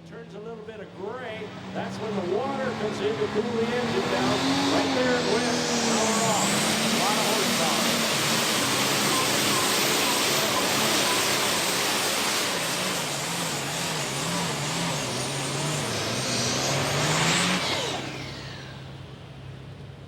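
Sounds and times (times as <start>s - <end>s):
falling engine whine: 0.0s - 20.0s
tractor engine under load: 0.0s - 20.0s.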